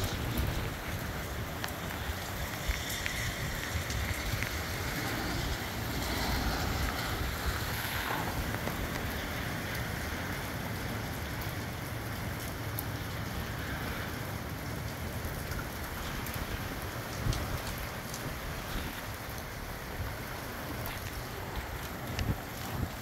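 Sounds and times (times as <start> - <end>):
gusty wind buffeting microphone: 0.0 - 10.9, 13.2 - 23.0
raindrop ticks: 0.0 - 23.0.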